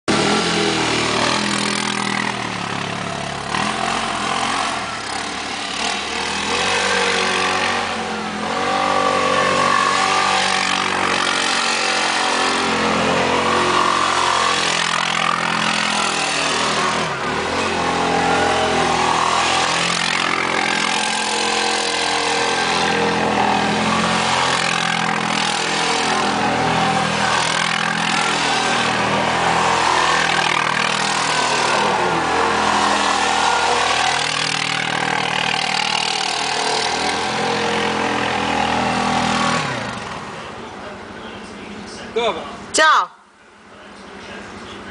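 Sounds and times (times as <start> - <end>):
quad bike engine revving: 0.1 - 42.9.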